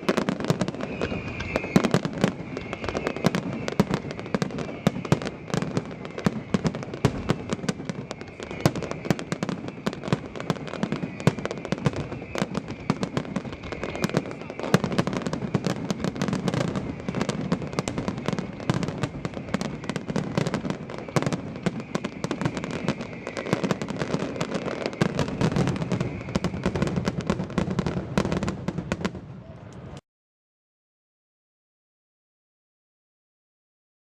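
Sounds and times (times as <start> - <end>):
fireworks cracks and bangs: 0.0 - 29.9.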